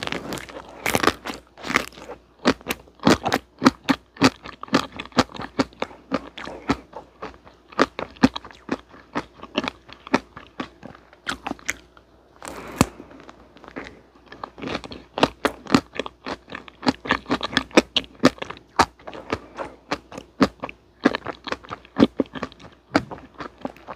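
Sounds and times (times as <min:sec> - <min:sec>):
chewing ice cream cake: 0:00.0 - 0:23.9.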